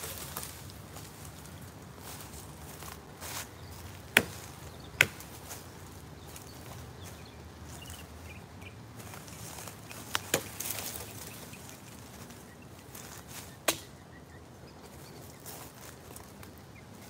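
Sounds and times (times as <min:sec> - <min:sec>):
brush rustling: 0:00.0 - 0:14.0, 0:14.8 - 0:17.0
footsteps on dry leaves: 0:00.0 - 0:14.0, 0:14.9 - 0:17.0.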